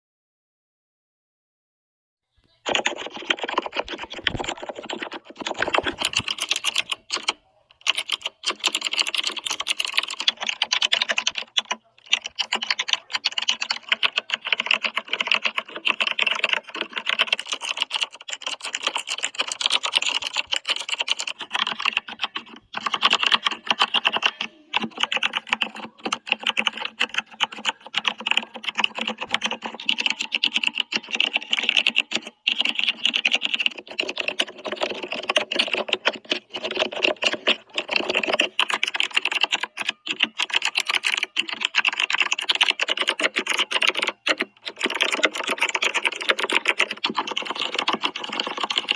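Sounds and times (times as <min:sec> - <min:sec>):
fast keyboard typing: 0:02.6 - 0:48.9.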